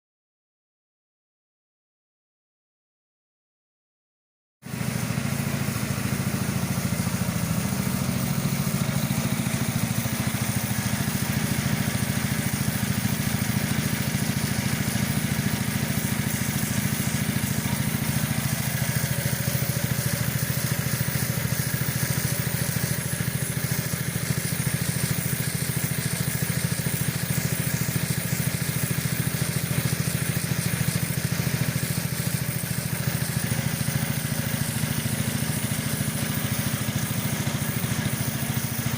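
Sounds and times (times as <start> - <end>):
pressure washer running: 4.6 - 38.9.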